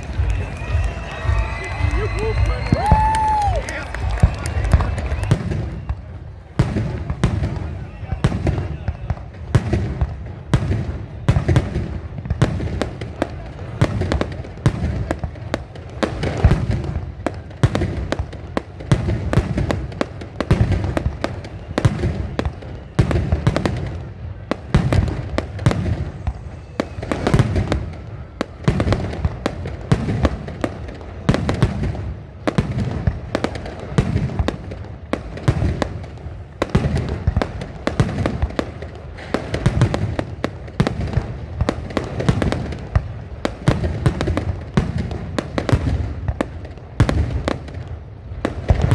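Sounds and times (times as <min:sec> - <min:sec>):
fireworks crackling: 0:00.0 - 0:48.9
fireworks deep booms: 0:00.0 - 0:48.9.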